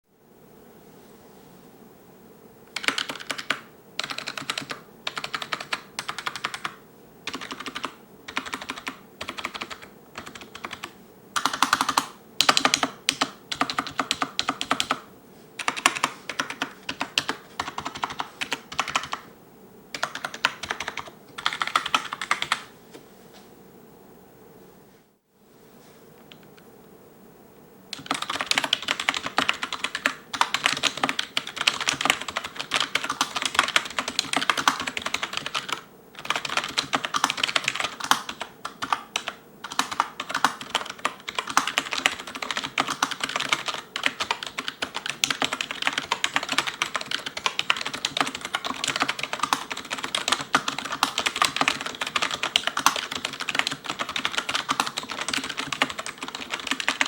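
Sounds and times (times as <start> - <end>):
fast keyboard typing: 2.7 - 19.3, 19.9 - 22.7, 27.9 - 57.0.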